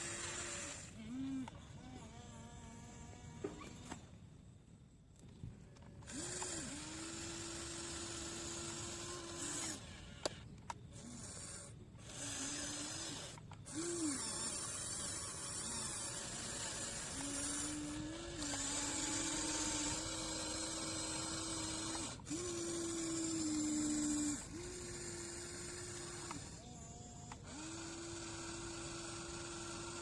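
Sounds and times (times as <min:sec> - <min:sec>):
small electric motors whining: 0:00.0 - 0:04.2, 0:05.2 - 0:30.0.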